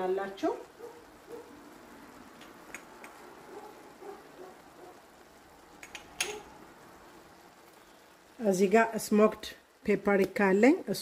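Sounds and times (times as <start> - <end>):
chicken and onions sizzling: 0.0 - 11.0.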